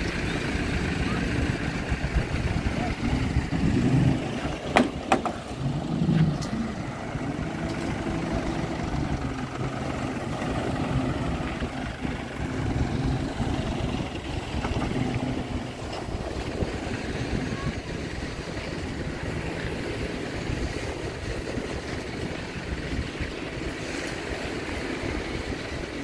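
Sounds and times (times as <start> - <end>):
motor engine running: 0.0 - 26.0.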